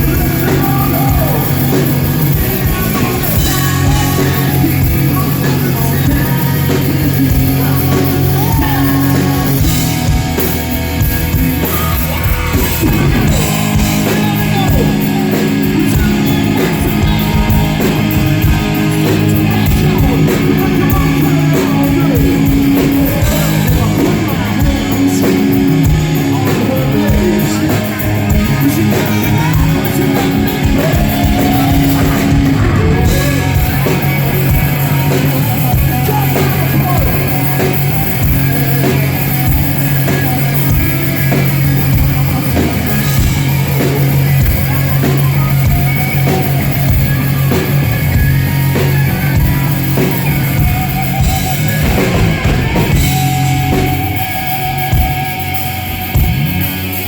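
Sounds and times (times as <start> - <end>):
bass: 0.0 - 57.0
drum kit: 0.0 - 57.0
electric guitar: 0.0 - 57.0
person singing: 0.0 - 57.0.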